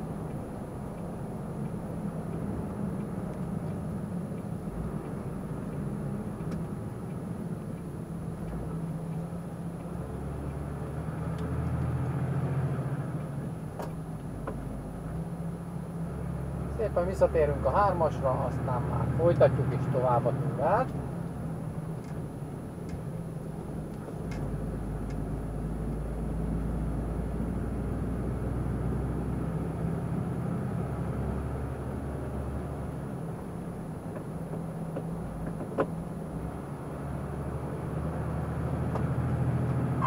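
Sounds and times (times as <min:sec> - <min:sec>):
truck engine hum from inside: 0:00.0 - 0:40.0.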